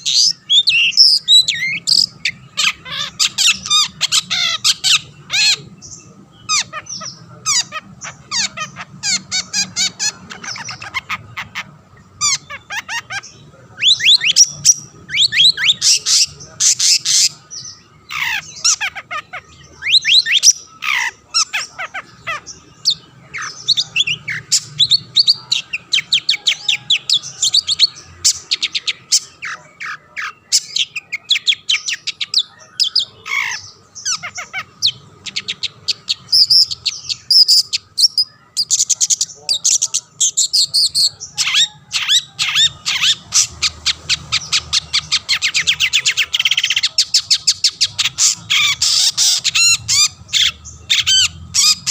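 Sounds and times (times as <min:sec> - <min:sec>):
shrike chattering song: 0:00.0 - 0:51.9.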